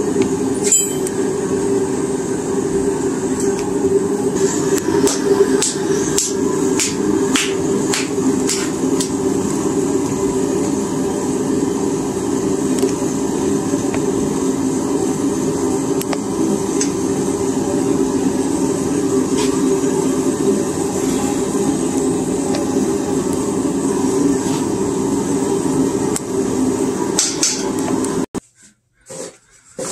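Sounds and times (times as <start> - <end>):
gas forge burner running: 0.0 - 28.4.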